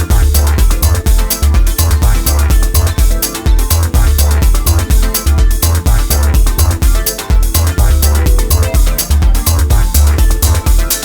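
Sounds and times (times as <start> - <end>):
crisp hi-hats: 0.0 - 11.0
electronic dance music: 0.0 - 11.0
pounding bass beat: 0.0 - 11.0.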